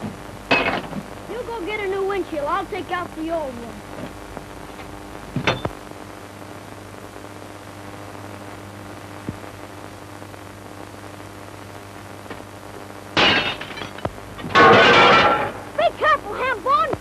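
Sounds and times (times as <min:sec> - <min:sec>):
film soundtrack hiss and hum: 0:00.0 - 0:17.0.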